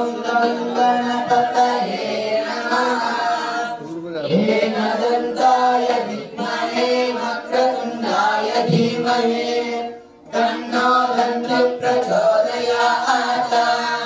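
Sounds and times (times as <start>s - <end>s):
men chanting a hymn in unison: 0.0s - 14.0s.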